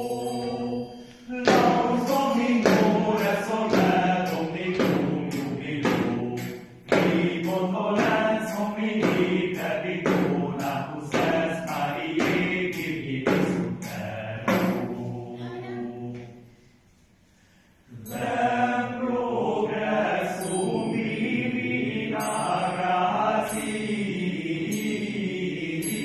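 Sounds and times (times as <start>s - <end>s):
male choir singing a cappella: 0.0s - 16.7s, 17.8s - 26.0s.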